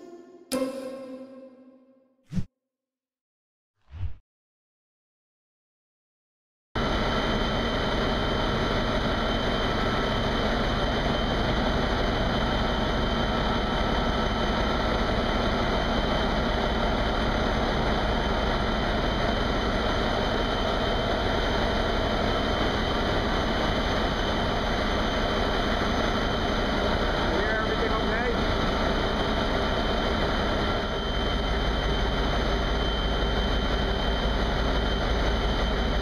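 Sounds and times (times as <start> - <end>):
large diesel engine running: 6.8 - 36.0.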